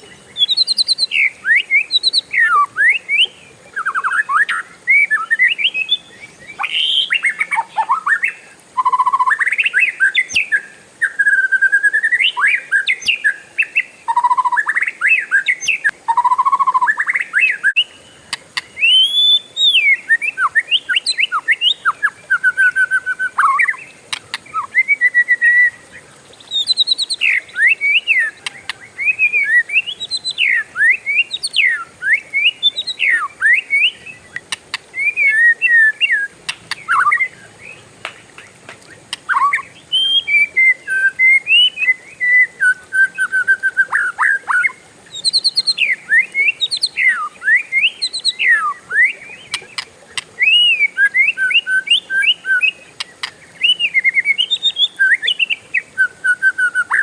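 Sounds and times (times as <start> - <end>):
bird singing whistled song: 0.0 - 37.8, 38.8 - 49.8, 50.4 - 57.0.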